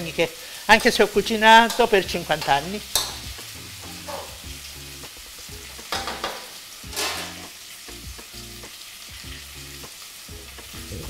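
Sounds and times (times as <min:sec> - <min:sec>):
meat sizzling in fat: 0:00.0 - 0:11.0.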